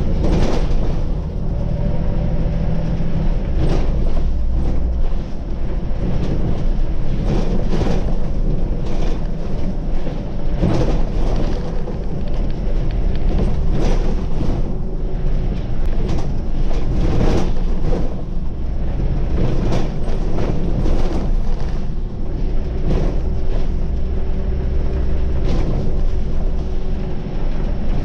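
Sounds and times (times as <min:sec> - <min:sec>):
bus engine and road rumble: 0:00.0 - 0:28.0
bus knocks and rattles: 0:00.0 - 0:28.0.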